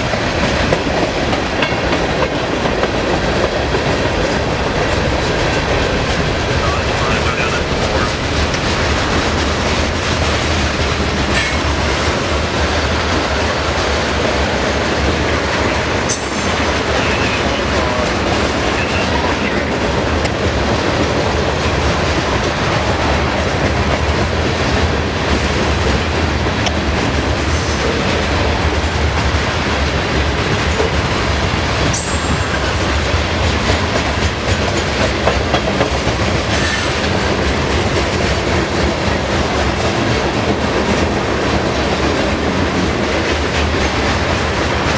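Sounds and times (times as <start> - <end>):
railroad cars rolling past: 0.0 - 44.9
wheels clacking over rail joints: 0.0 - 44.9.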